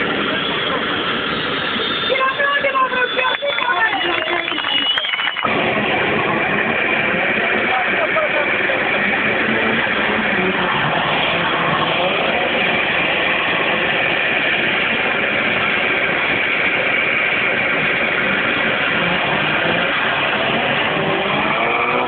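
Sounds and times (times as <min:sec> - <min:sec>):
car engine running: 0:00.0 - 0:22.0
high whine: 0:00.0 - 0:22.0.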